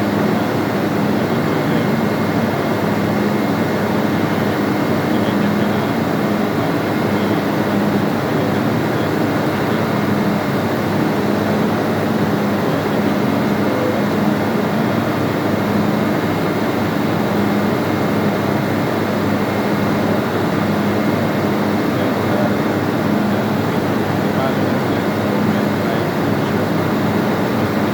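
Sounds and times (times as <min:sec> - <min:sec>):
ship engine room drone: 0:00.0 - 0:27.9.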